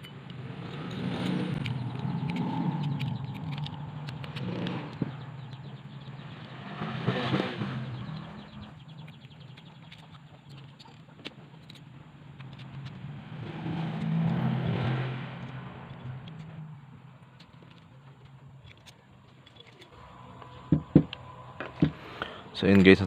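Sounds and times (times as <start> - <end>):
small metal parts clicking: 0.0 - 6.6, 8.1 - 13.1, 15.4 - 23.0
vehicle engines passing: 0.0 - 23.0.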